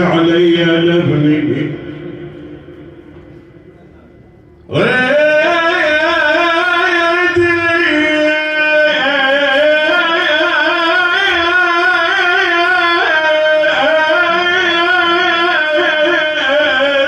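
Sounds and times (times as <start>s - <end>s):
man chanting lament: 0.0s - 3.7s, 4.7s - 17.0s.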